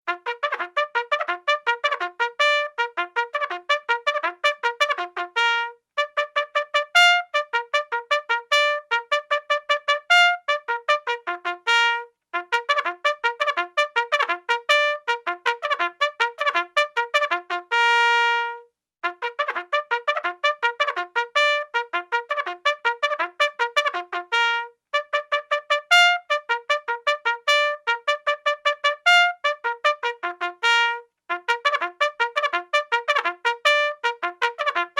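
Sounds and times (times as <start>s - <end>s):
bugle call: 0.1s - 34.9s.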